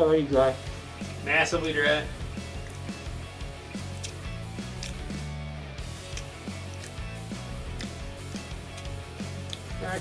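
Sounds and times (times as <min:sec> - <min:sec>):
guitar over drums and bass: 0:00.0 - 0:10.0.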